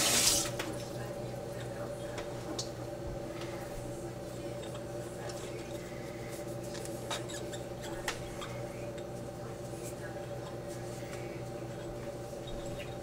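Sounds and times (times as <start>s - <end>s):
espresso machine humming: 0.0s - 13.0s.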